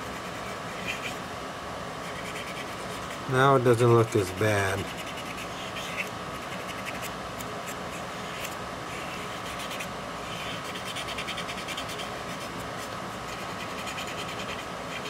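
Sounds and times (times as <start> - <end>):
steady hum: 0.0 - 15.0
paintbrush scrubbing plastic: 2.1 - 7.1, 7.9 - 15.0.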